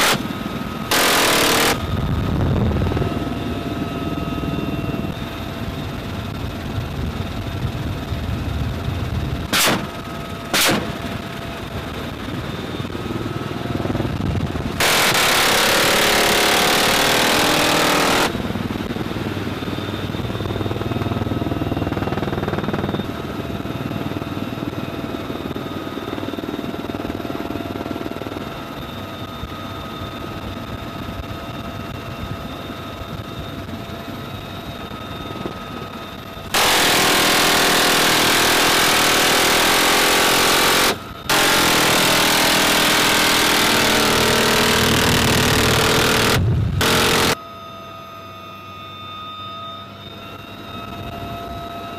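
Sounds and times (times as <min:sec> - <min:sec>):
helicopter engines whining: 0:00.0 - 0:51.9
helicopter rotor noise: 0:00.0 - 0:51.9.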